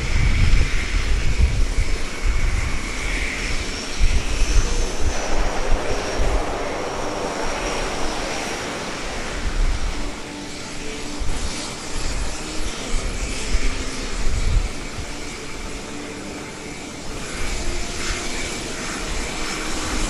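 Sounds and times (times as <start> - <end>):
helicopter rotor beats: 0.0 - 20.0
turbine whine: 0.0 - 20.0.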